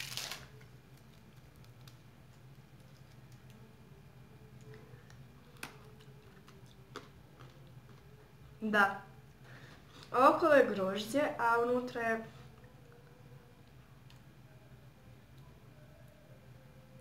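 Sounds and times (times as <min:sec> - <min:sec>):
quiet room hum: 0:00.0 - 0:17.0.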